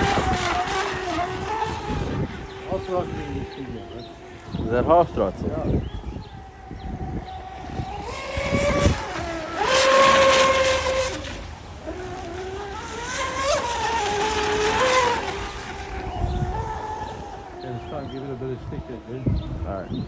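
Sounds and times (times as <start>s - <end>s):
electric boat motor whine: 0.0s - 20.0s.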